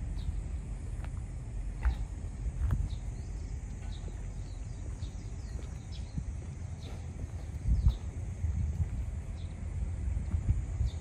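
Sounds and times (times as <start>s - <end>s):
low rumble on microphone: 0.0s - 11.0s
steady high hiss: 0.0s - 11.0s.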